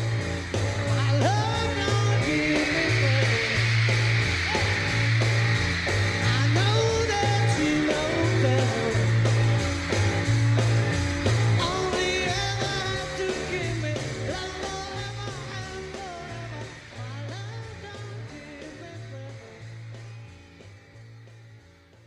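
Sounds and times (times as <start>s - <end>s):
rock song with singing: 0.0s - 20.6s.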